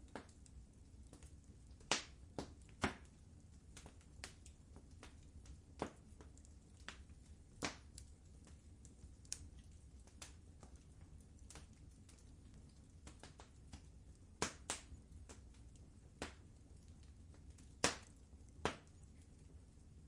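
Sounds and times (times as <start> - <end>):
low rumble of burning fire: 0.0 - 20.0
wood fire crackling: 0.0 - 20.0.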